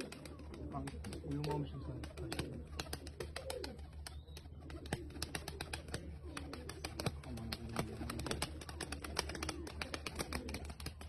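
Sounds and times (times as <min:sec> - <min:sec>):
pigeons cooing: 0:00.0 - 0:11.0
steady low hum: 0:00.0 - 0:11.0.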